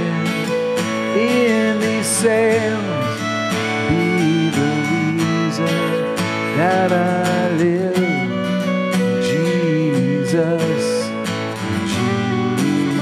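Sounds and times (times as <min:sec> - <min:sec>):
acoustic guitar chords: 0:00.0 - 0:13.0
person singing: 0:00.0 - 0:13.0.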